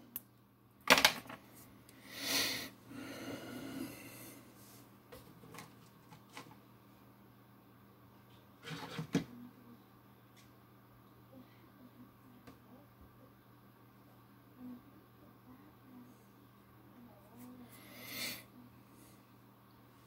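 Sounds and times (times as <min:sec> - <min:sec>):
steady low hum: 0:00.0 - 0:08.6, 0:09.2 - 0:20.0.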